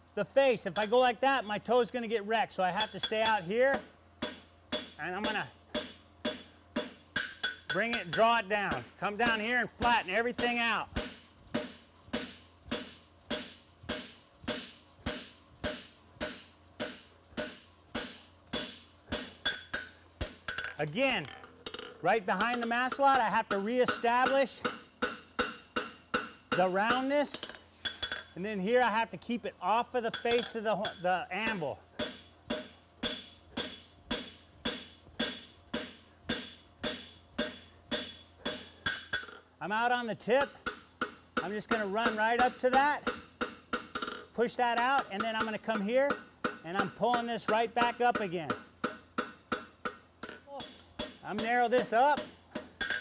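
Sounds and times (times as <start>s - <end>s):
hammer striking hot steel on anvil: 2.8s - 28.3s, 30.0s - 39.4s, 40.4s - 53.0s.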